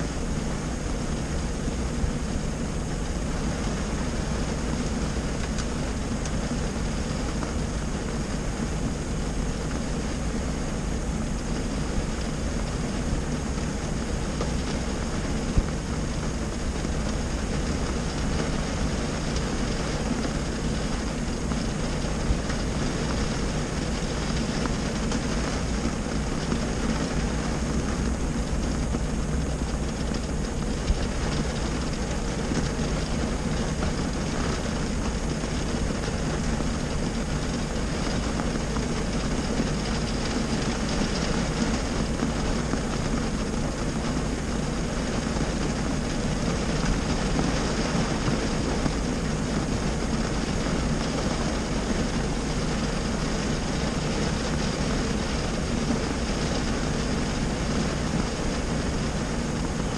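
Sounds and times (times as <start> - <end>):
rain on car roof: 0.0 - 59.9
sharp rain taps: 0.0 - 59.9.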